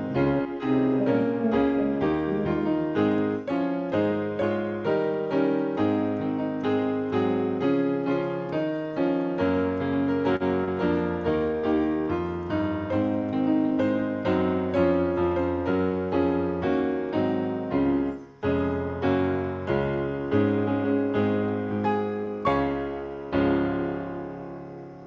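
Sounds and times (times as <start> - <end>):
slow gentle piano piece: 0.0 - 25.0.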